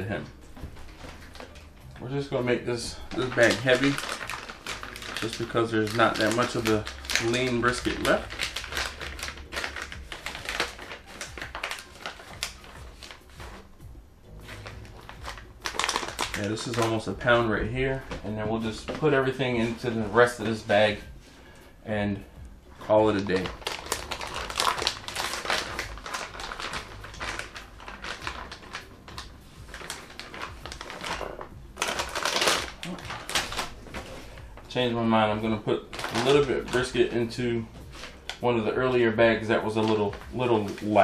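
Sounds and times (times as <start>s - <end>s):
plastic bag crinkling: 0.0s - 13.7s, 14.3s - 21.0s, 22.8s - 41.0s.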